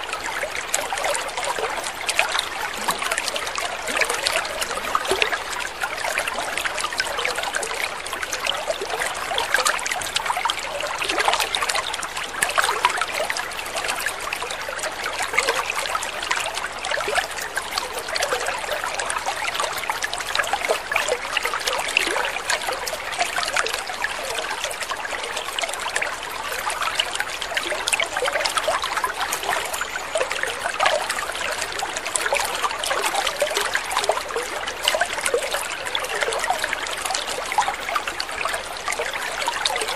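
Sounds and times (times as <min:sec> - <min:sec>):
small water splashes: 0:00.0 - 0:39.9
water trickling: 0:00.0 - 0:39.9.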